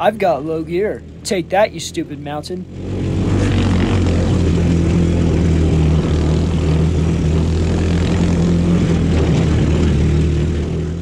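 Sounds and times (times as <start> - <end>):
small engine running under load: 0.0 - 11.0.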